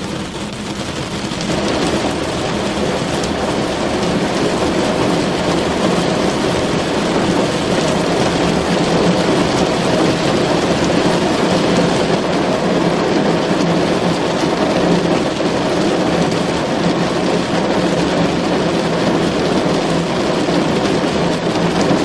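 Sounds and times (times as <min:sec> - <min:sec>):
rain on a car roof: 0:00.0 - 0:22.0.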